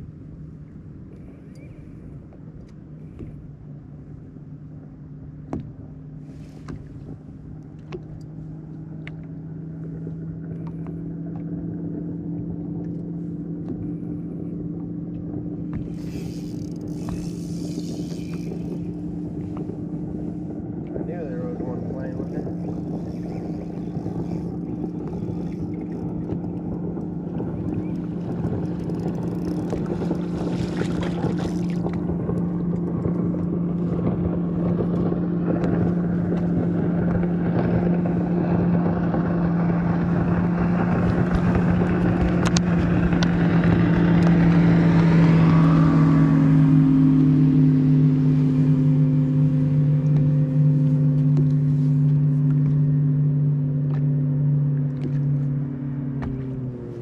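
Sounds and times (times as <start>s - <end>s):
outboard motor humming: 0.0s - 57.0s
rushing water: 6.1s - 57.0s.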